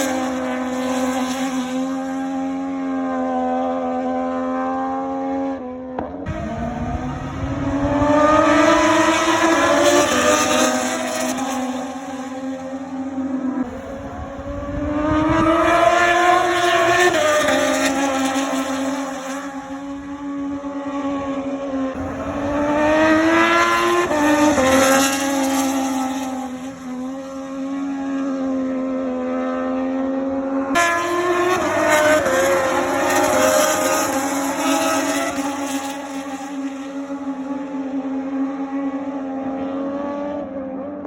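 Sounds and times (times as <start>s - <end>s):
racing motorcycle engines revving: 0.0s - 41.0s.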